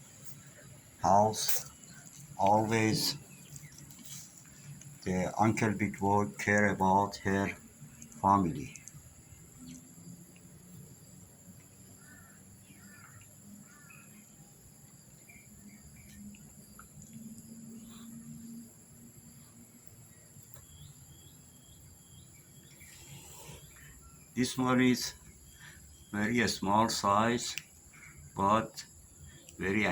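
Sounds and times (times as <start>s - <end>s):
insect drone: 0.0s - 29.9s.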